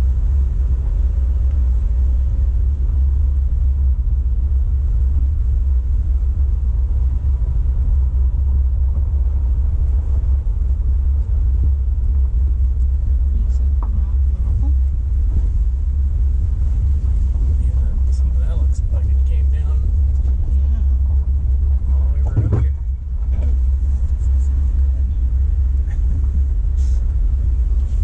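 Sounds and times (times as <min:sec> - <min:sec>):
vehicle driving on gravel: 0:00.0 - 0:28.0.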